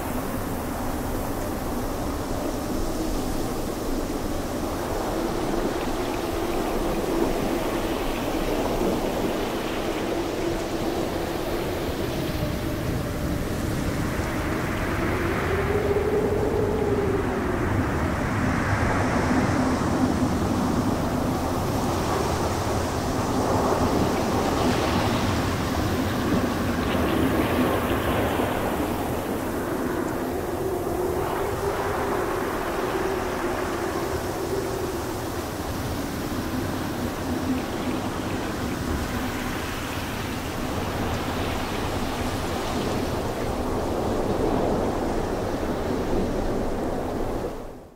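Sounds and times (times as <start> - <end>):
strong wind rushing and howling: 0.0 - 47.9.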